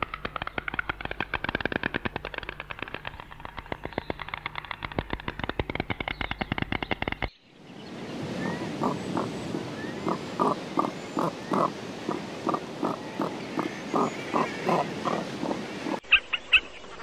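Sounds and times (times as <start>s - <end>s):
stork clattering its bill: 0.0s - 7.3s, 8.8s - 16.0s
steady outdoor hiss: 0.0s - 17.0s.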